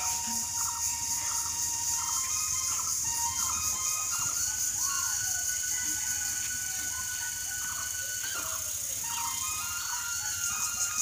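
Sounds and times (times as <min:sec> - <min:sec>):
birds chirping: 0:00.0 - 0:11.0
high-pitched insect drone: 0:00.0 - 0:11.0
soft background music: 0:00.0 - 0:11.0.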